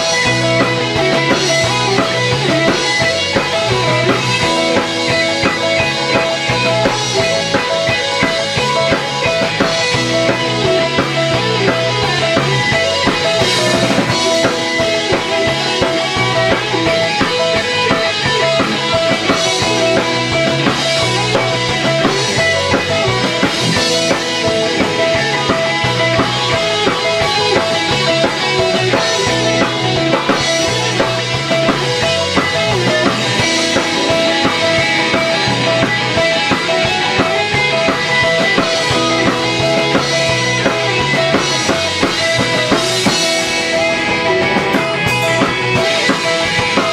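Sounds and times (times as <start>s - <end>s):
distorted electric guitars: 0.0s - 46.9s
drum kit beat: 0.0s - 46.9s.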